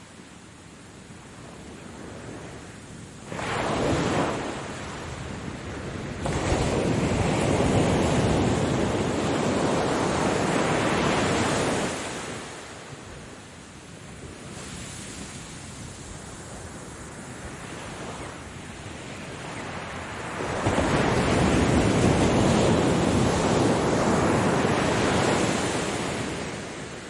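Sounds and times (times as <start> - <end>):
ocean waves breaking on shore: 0.0 - 27.0.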